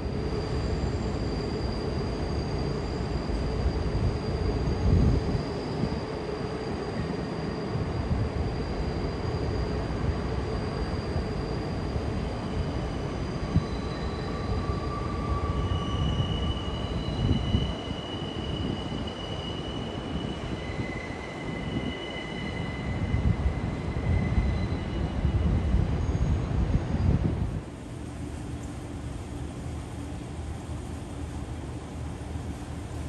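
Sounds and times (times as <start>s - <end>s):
train rumbling along track: 0.0s - 33.0s
wheels squealing on rails: 0.0s - 33.0s.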